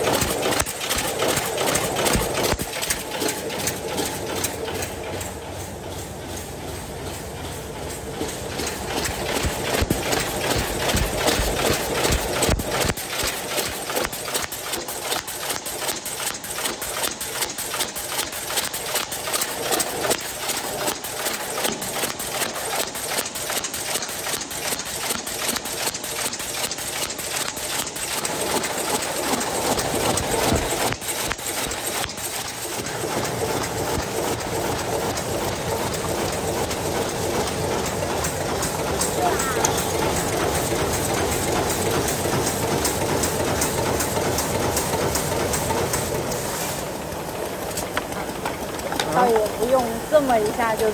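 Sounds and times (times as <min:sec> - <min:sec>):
machine clattering: 0:00.0 - 0:50.9.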